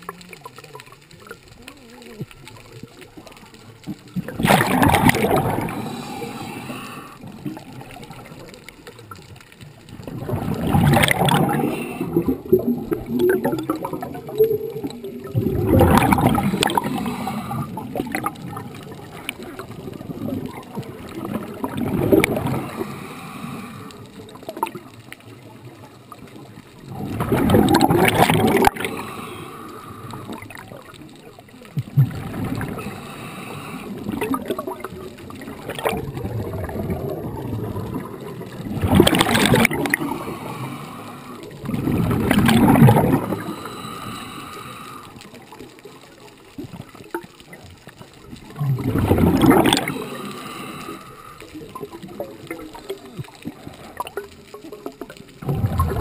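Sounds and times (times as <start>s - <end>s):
regulator bubbles gurgling: 0.0s - 56.0s
underwater water noise: 0.0s - 56.0s.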